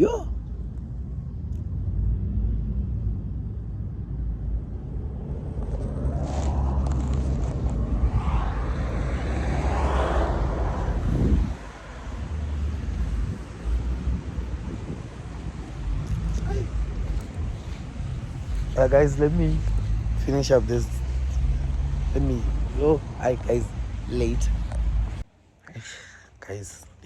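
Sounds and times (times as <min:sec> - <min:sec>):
street rumble: 0:00.0 - 0:27.0
motor vehicle passing: 0:01.1 - 0:25.3.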